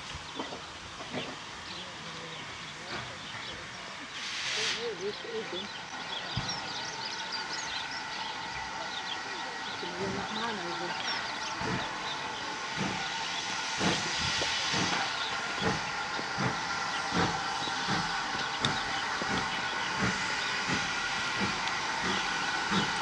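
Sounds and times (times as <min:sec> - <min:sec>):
continuous steam hiss: 0:00.0 - 0:23.0
steam locomotive exhaust beats: 0:00.0 - 0:23.0.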